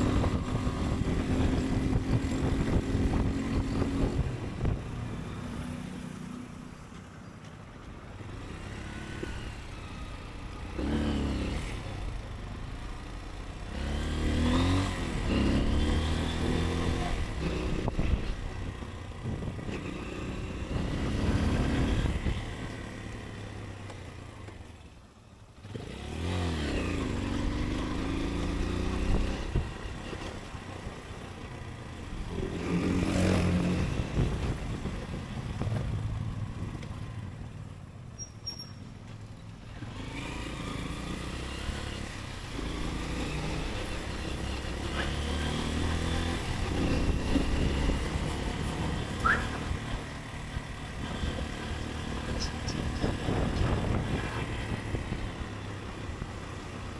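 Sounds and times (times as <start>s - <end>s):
motorcycle engine accelerating: 0.0s - 6.4s, 8.3s - 24.6s, 25.6s - 38.7s, 39.6s - 56.9s
road and wind noise: 0.0s - 56.9s.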